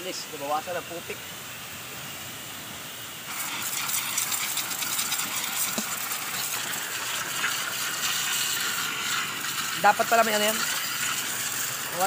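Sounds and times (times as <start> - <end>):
pressure washer spray hissing: 0.0 - 12.0.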